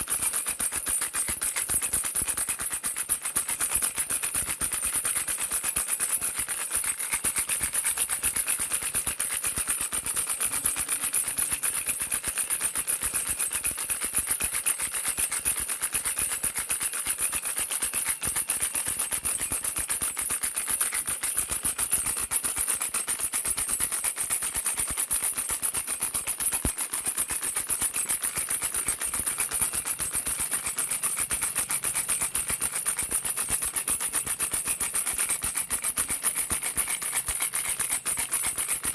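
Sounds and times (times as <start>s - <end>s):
baby rattle shaken rapidly: 0.0s - 38.9s.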